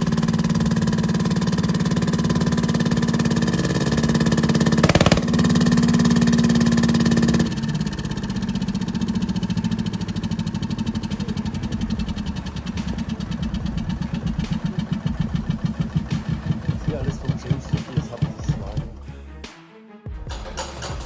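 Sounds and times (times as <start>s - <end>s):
old engine firing: 0.0s - 19.0s
loud steady drone: 0.0s - 19.1s.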